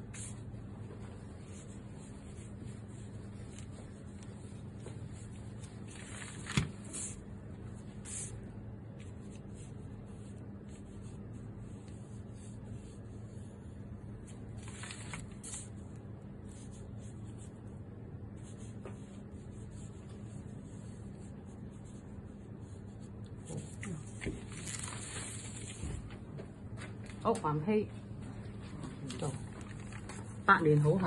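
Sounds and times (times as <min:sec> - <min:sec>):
brush swishing on paper: 0:00.0 - 0:26.0
steady low hum: 0:00.0 - 0:31.0.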